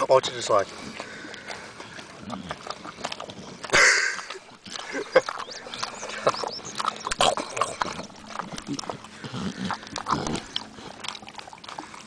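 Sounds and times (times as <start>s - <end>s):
pig grunting: 1.1s - 12.0s.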